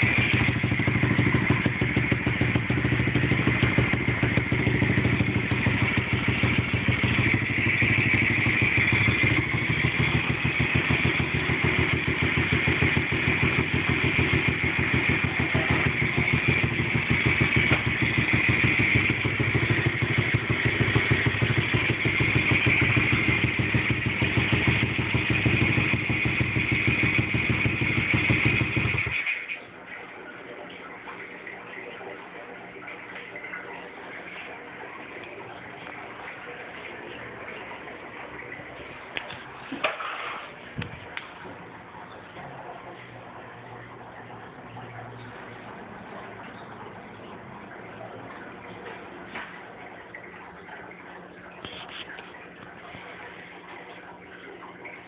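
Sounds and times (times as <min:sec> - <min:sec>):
pitbike engine idling: 0:00.0 - 0:50.7.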